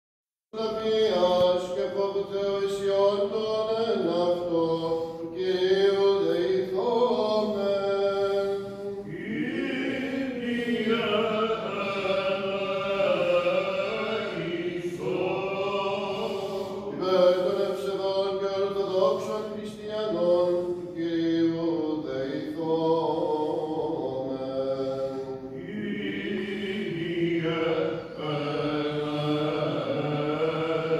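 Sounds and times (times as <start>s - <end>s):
melismatic chant vocal: 0.6s - 30.9s.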